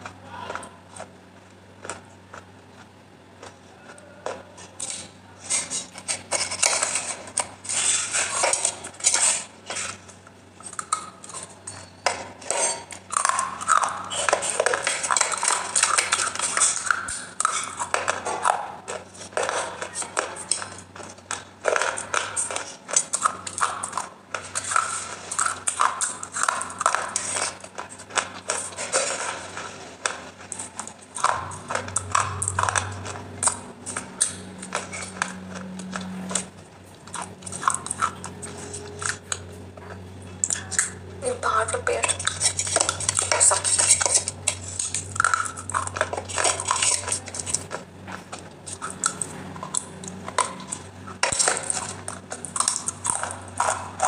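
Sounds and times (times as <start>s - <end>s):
sticky squelching sounds: 0.0s - 54.0s.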